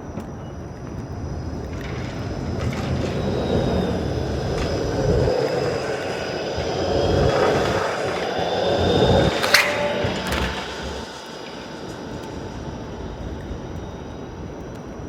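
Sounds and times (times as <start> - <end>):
streetcar wheels rumbling: 0.0 - 14.8
high whine of streetcar motor: 0.0 - 15.0.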